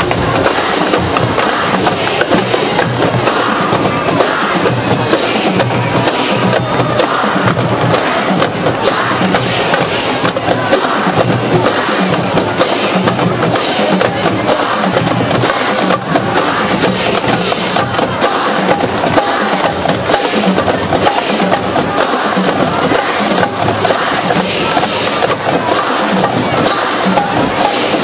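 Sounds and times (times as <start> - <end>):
drumline hits: 0.0 - 28.0
marching band brass: 0.0 - 28.0.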